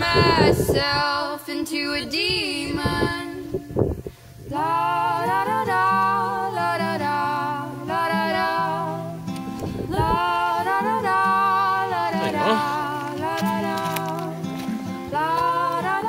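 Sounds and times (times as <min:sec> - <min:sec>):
acoustic guitar: 0:00.0 - 0:16.0
women singing long held notes: 0:00.0 - 0:16.0.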